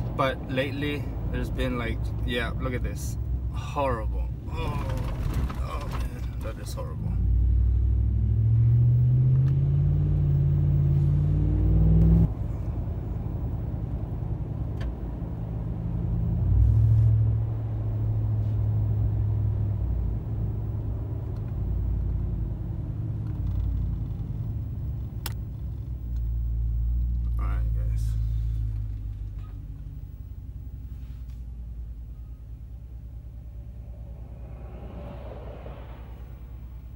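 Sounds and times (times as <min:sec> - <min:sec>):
truck engine exhaust accelerating: 0:07.1 - 0:36.9.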